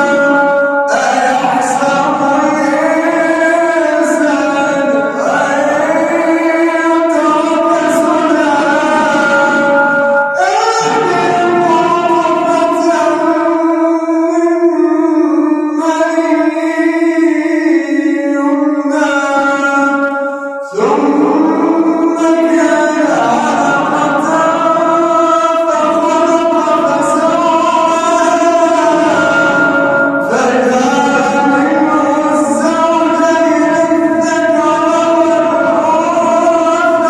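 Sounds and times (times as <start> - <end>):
man chanting melodically: 0.0 - 37.0.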